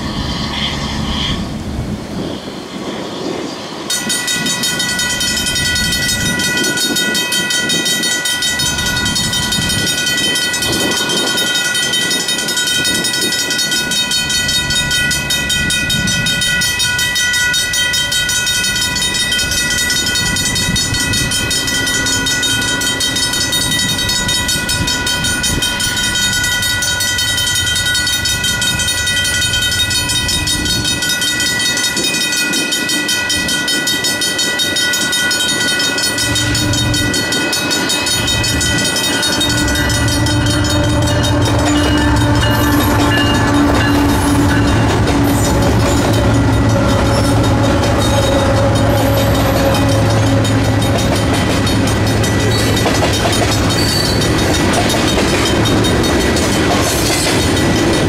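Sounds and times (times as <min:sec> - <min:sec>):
railroad crossing bells clanging: 0:00.0 - 0:58.0.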